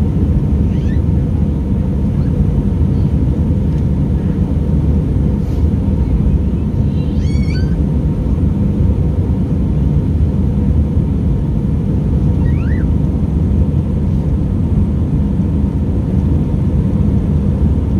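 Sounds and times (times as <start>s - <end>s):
airplane cabin engine rush: 0.0s - 17.9s.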